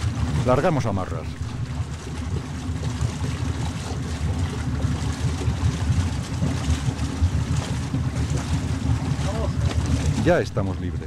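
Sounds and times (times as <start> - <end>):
motorboat engine idling: 0.0 - 11.0.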